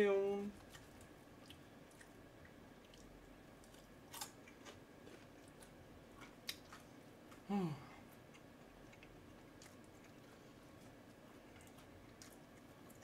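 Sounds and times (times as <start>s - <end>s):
chewing: 0.6s - 13.0s.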